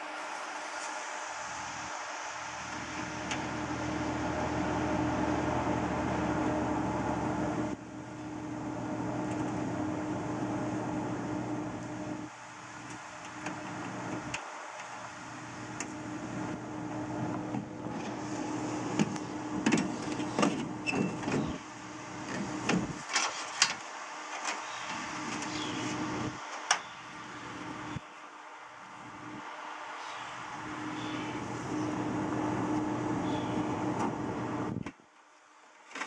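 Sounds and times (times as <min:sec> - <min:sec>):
machine hum: 0:00.0 - 0:23.1, 0:23.8 - 0:34.9.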